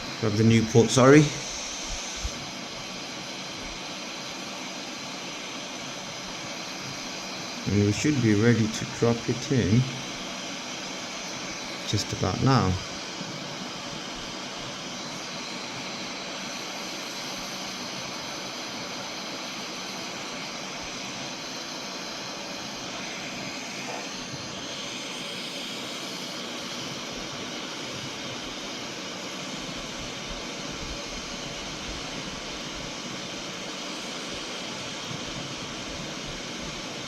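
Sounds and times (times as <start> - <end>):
hot air station blowing: 0.0 - 37.0.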